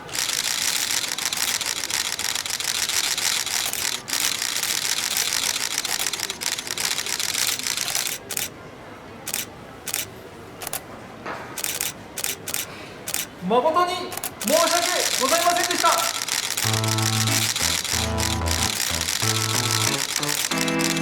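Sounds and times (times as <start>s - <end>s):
camera shutters clicking: 0.2s - 8.5s, 11.6s - 13.3s, 14.1s - 21.0s.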